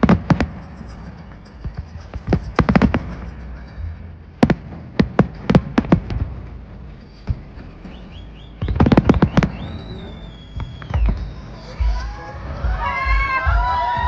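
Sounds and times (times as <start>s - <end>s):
fireworks exploding: 0.0s - 12.2s
low background rumble: 0.0s - 14.0s.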